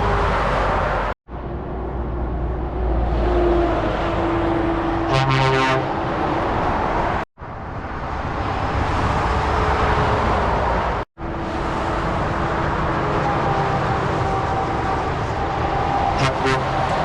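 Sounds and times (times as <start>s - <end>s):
motorway traffic rushing past: 0.0s - 17.0s.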